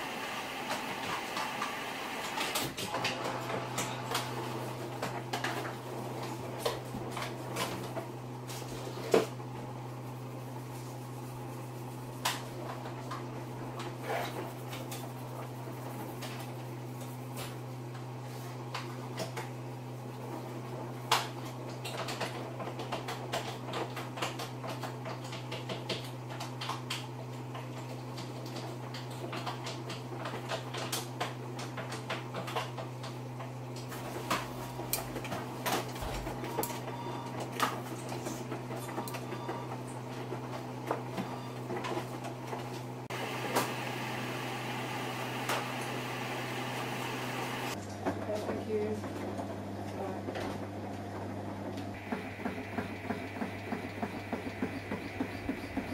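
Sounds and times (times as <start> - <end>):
washing machine motor hum: 0.0 - 55.9.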